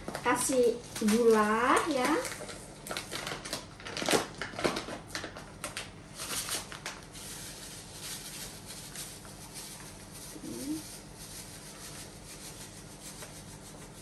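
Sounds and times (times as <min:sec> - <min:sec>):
sugar bag crinkling: 0:00.0 - 0:12.9.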